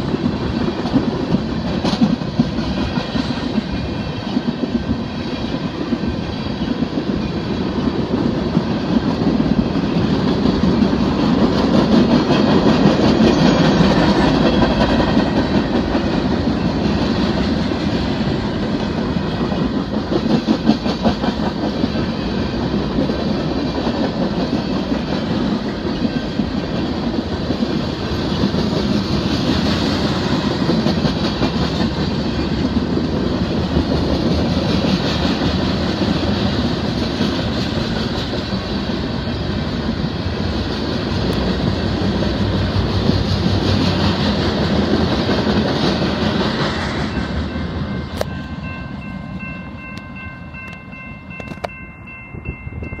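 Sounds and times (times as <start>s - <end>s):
wheels clicking over rail joints: 0.0s - 47.3s
steel wheels rumbling on rail: 0.0s - 53.0s.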